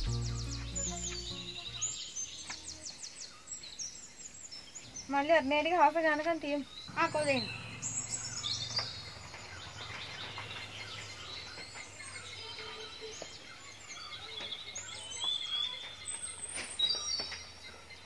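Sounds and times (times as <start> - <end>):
birds singing and chirping: 0.0 - 18.0.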